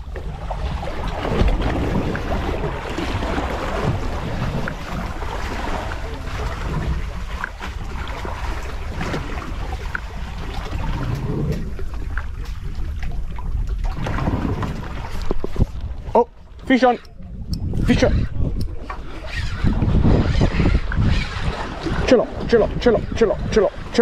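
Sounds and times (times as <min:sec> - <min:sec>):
steady low rumble: 0:00.0 - 0:21.1
water splashing against hull: 0:00.0 - 0:24.0
wind buffeting microphone: 0:00.0 - 0:24.0.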